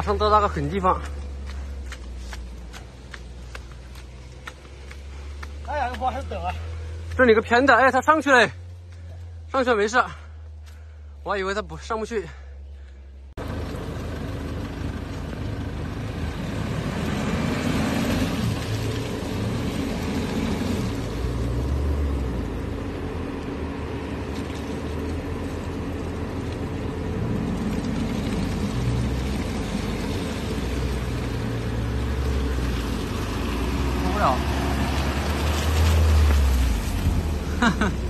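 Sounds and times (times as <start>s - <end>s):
suv engine rumbling at low speed: 0.0s - 38.0s.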